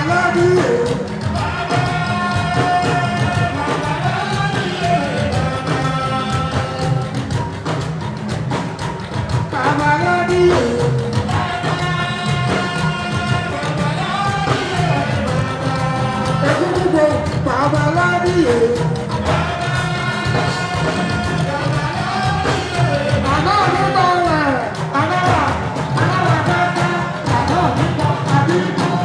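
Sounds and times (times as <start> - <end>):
percussion and bass: 0.0 - 29.0
person singing: 0.0 - 29.0.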